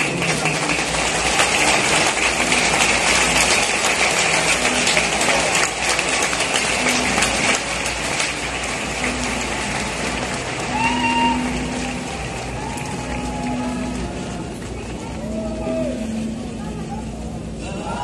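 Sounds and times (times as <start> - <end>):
crowd applauding: 0.0 - 16.5.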